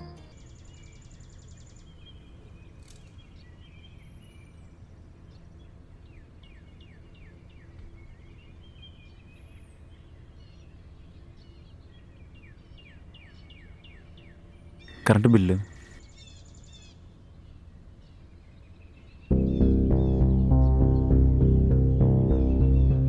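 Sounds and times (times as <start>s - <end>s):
birds chirping: 0.0s - 23.0s
high gliding bird calls: 0.0s - 23.0s
low background hum: 0.0s - 23.0s.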